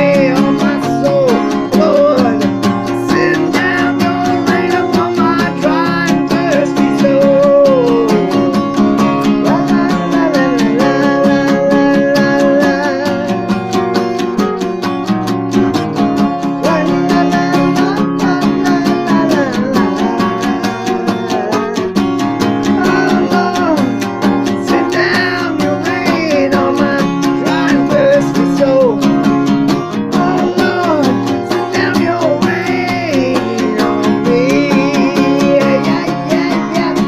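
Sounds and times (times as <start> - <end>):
wordless vocal line: 0.0 - 14.9, 15.6 - 37.0
acoustic guitar strumming: 0.0 - 37.0.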